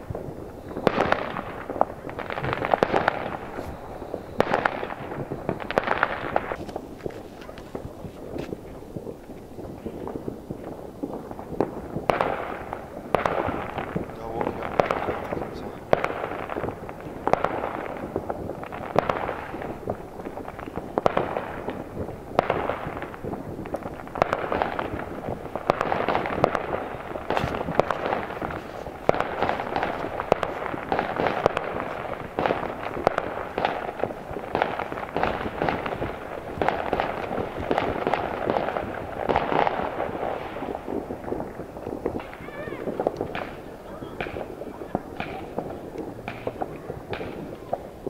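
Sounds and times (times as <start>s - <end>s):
fireworks bangs and crackling: 0.0s - 48.0s
loud single firework bangs: 0.0s - 48.0s.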